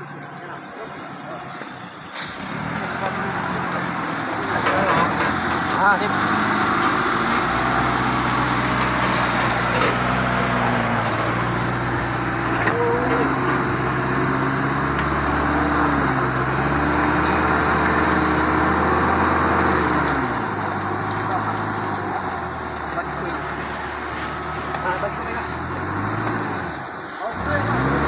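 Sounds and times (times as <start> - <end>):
truck engine revving under load: 0.0 - 28.0.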